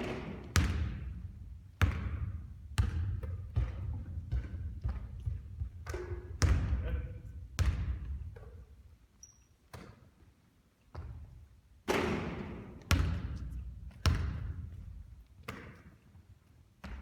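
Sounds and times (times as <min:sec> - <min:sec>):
basketball bouncing on court: 0:00.0 - 0:08.7, 0:10.9 - 0:16.0, 0:16.8 - 0:17.0.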